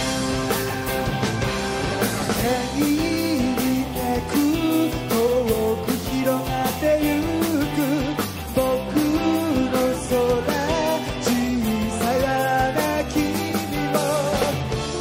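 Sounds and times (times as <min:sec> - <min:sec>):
live pop-rock band: 0:00.0 - 0:15.0
man singing: 0:02.2 - 0:14.8.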